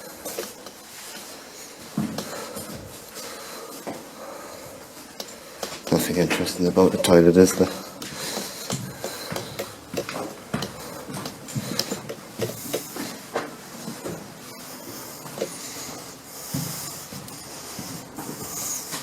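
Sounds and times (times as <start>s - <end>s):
footsteps: 0.0s - 19.0s.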